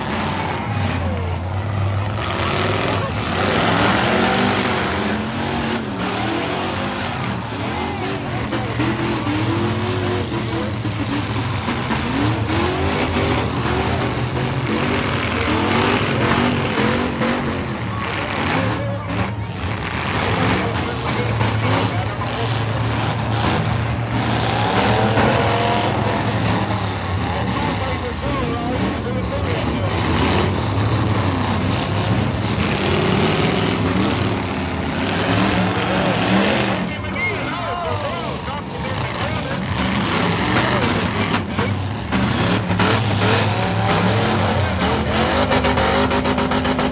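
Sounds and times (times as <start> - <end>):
car engines revving: 0.0 - 46.9
low engine rumble: 0.0 - 46.9.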